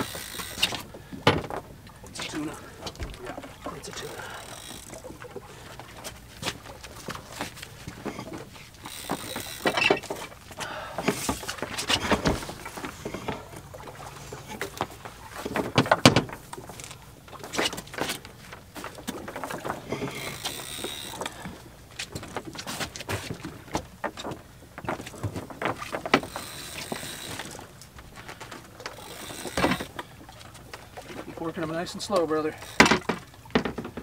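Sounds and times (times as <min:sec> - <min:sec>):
water moving along hull: 0:00.0 - 0:34.0.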